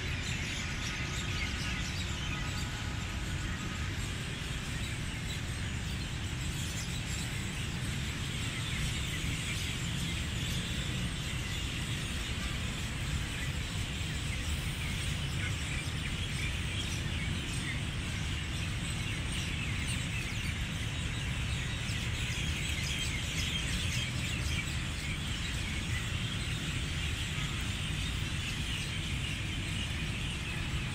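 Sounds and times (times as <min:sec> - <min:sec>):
birds chirping and peeping: 0:00.0 - 0:30.9.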